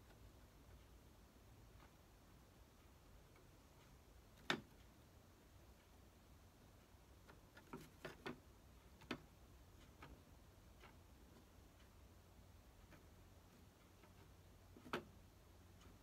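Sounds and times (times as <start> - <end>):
faint clicks and taps: 0.0 - 16.0.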